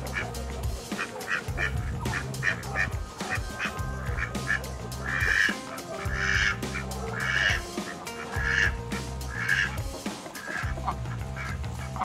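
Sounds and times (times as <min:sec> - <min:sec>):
background music: 0:00.0 - 0:12.0
duck quacking: 0:00.0 - 0:12.0.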